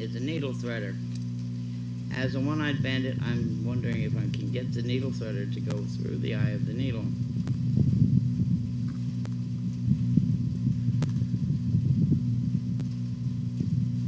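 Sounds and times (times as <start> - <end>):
wind buffeting microphone: 1.5 - 14.0.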